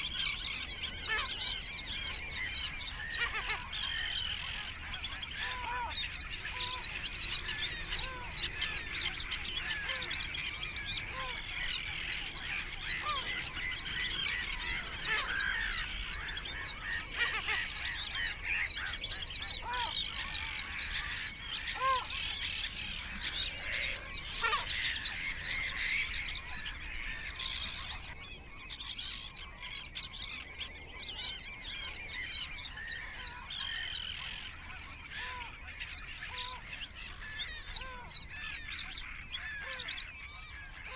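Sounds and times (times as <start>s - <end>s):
flock of birds chattering: 0.0s - 40.9s.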